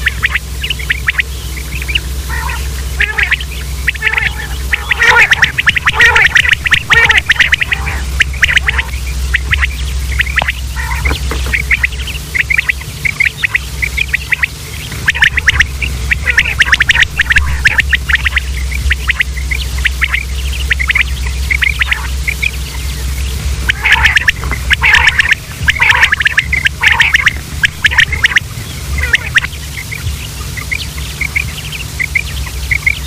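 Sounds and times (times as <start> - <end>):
quails calling: 0.0 - 33.0
steady low hum: 0.0 - 33.0.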